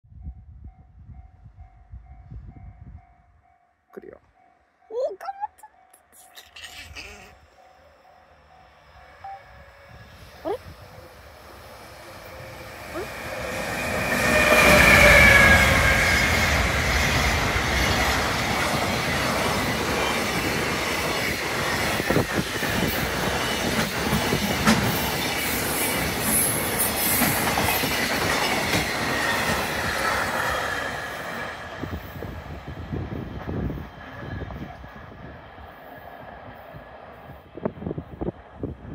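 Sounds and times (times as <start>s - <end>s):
electric locomotive passing with whine: 7.2s - 38.9s.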